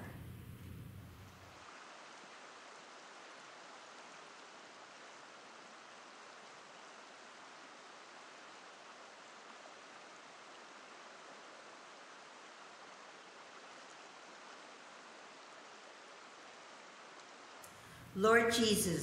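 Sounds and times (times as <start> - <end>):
shallow river flowing over stones: 0.1 - 17.6.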